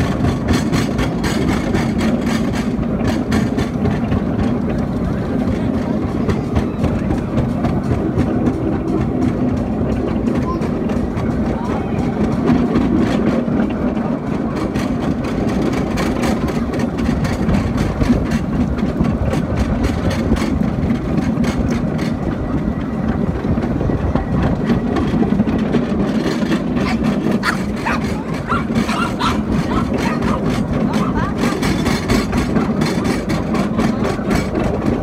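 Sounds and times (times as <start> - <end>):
miniature train rumbling: 0.0 - 35.0
wheels clicking on rails: 0.0 - 35.0.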